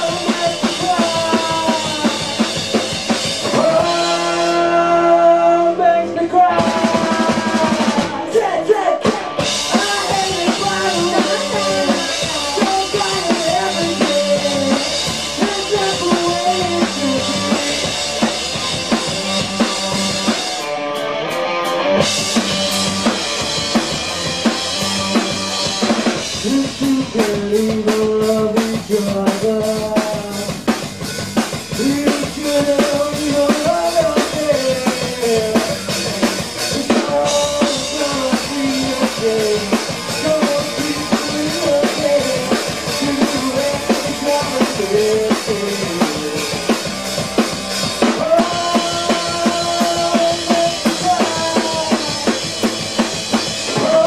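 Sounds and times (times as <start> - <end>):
bass guitar: 0.0 - 54.0
distorted electric guitar: 0.0 - 54.0
drum kit: 0.0 - 54.0.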